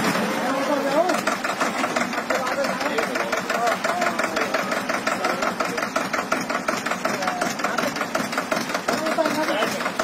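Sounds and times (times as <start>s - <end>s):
tractor diesel engine knocking: 0.0s - 10.0s.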